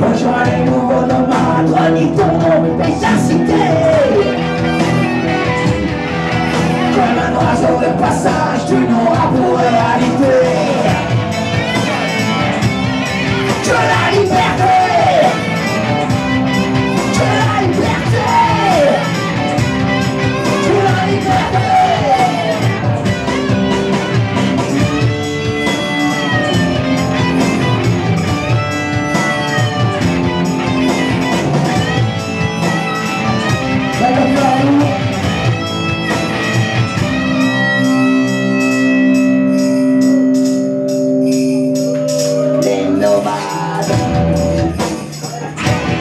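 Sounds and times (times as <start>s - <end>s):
electric guitar lead line bending: 0.0s - 46.0s
live rock band playing: 0.0s - 46.0s.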